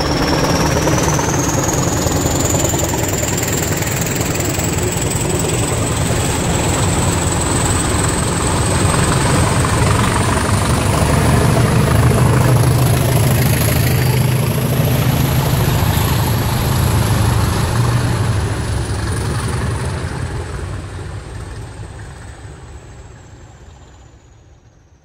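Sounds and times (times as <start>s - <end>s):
diesel locomotive engine hum: 0.0s - 25.0s.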